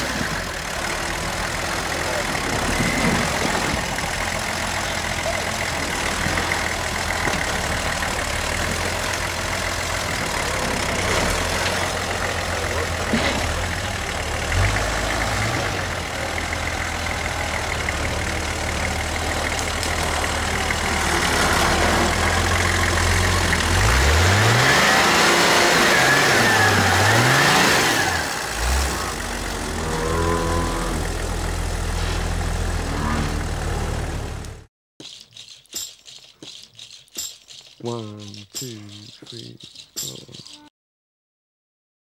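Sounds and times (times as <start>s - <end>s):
engine revving: 0.0s - 34.7s
engine running under load: 0.0s - 34.7s.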